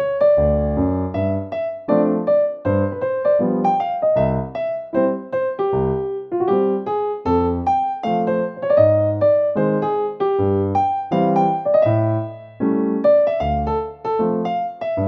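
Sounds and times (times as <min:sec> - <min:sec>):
piano melody over chords: 0:00.0 - 0:15.0.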